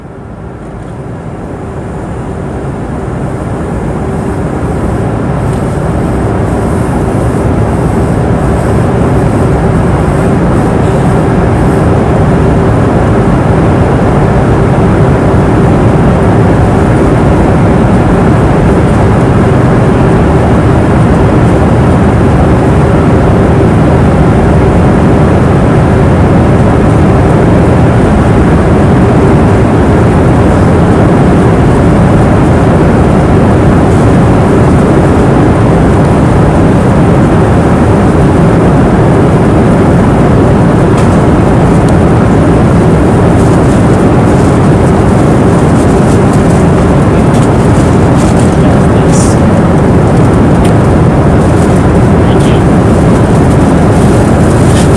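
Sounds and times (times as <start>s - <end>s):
airplane engine and airflow rush: 0.0s - 54.9s
low steady hum: 0.0s - 54.9s.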